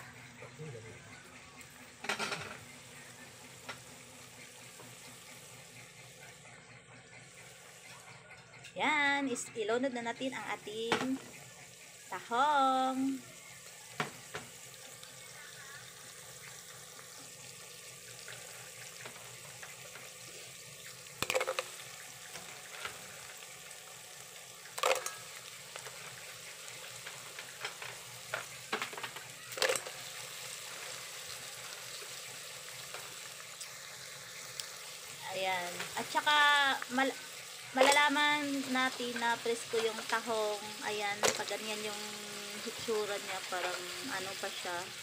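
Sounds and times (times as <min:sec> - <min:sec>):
food sizzling in a metal pot: 0:00.0 - 0:45.0.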